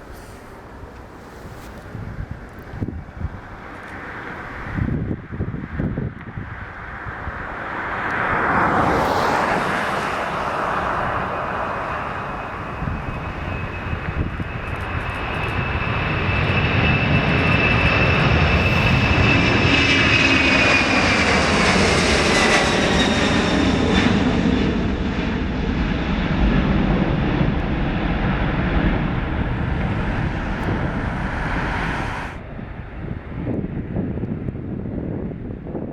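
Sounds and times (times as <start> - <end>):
jet airliner taking off: 0.0 - 35.9.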